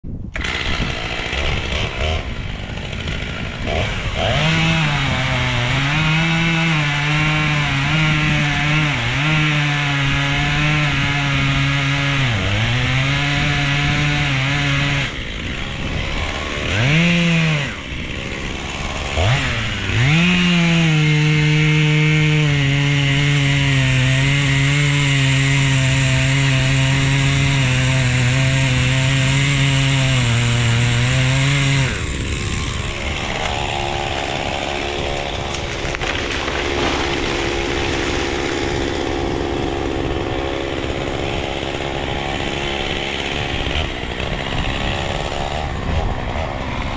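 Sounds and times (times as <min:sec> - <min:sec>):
chainsaw cutting a tree trunk: 0:00.1 - 0:46.9.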